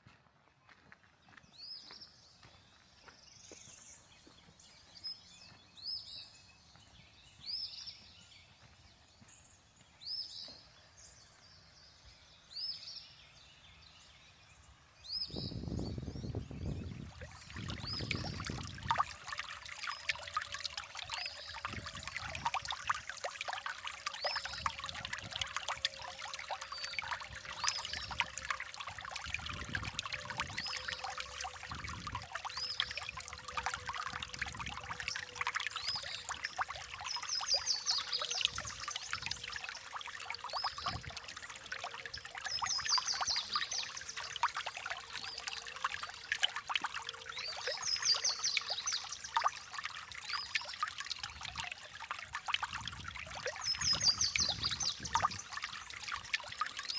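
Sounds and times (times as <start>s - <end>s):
creek water over stones: 0.7s - 56.9s.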